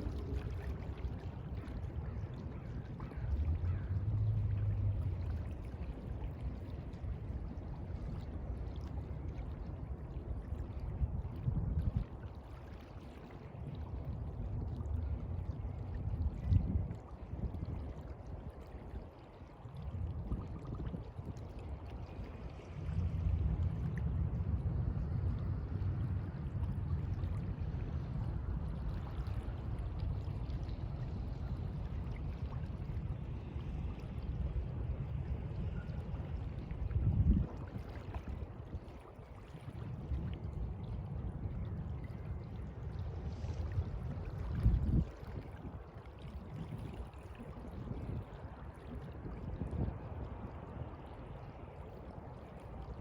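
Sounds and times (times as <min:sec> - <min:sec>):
sea water washing and sloshing: 0:00.0 - 0:53.0.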